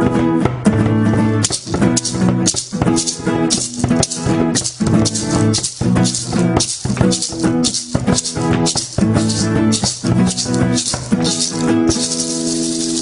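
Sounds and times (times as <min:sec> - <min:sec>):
fast percussive beat: 0:01.4 - 0:13.0.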